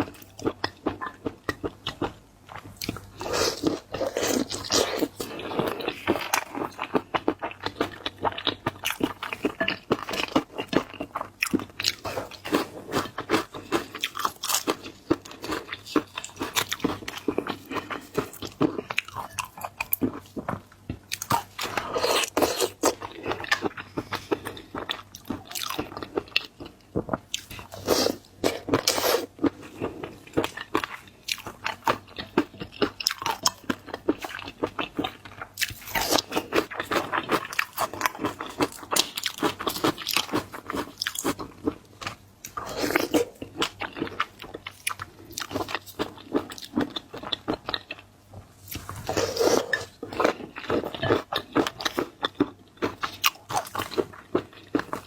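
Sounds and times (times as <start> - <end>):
seafood being crunched and chewed: 0.0 - 55.0.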